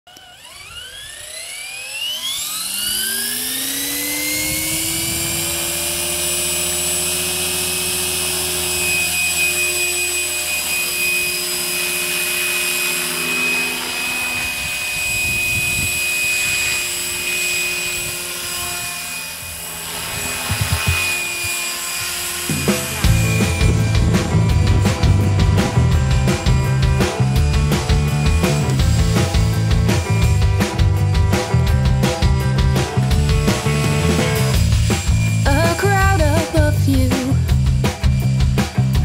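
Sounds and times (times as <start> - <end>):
rc helicopter rotor whine: 0.1 - 39.0.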